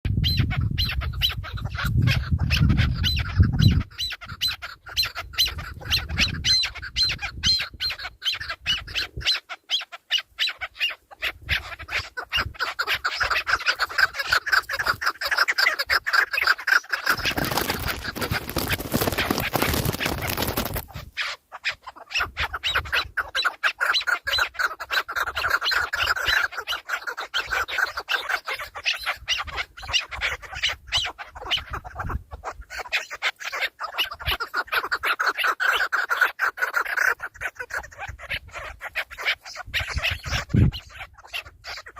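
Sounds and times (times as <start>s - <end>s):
birds squawking: 0.2s - 41.9s.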